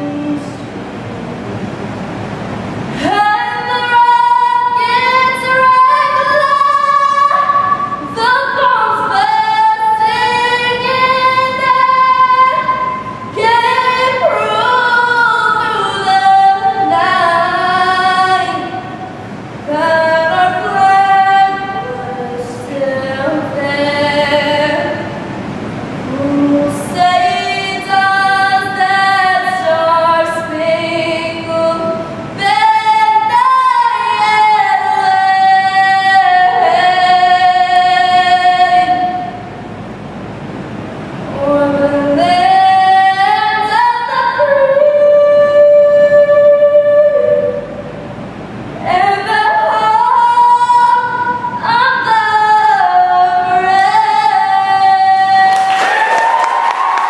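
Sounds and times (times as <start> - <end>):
woman singing slow song: 0.0 - 0.8, 2.8 - 39.8, 41.2 - 57.0.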